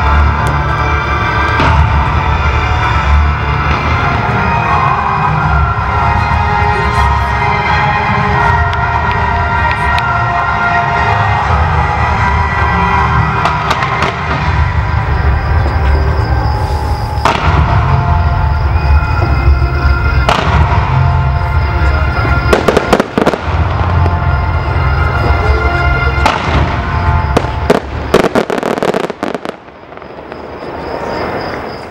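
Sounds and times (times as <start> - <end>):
fireworks launching and bursting: 0.0 - 6.3, 11.0 - 31.9.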